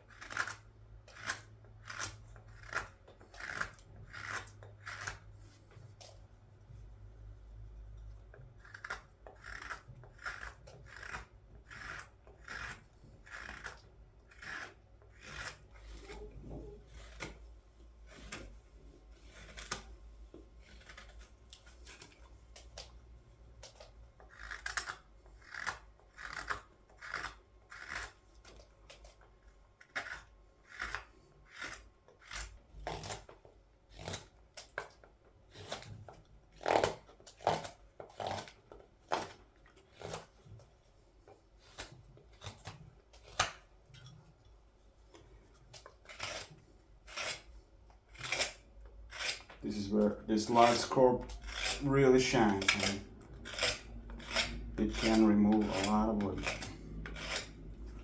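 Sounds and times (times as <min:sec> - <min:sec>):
knife scraping green wood: 0:00.0 - 0:06.3, 0:08.2 - 0:44.4, 0:45.1 - 0:58.0.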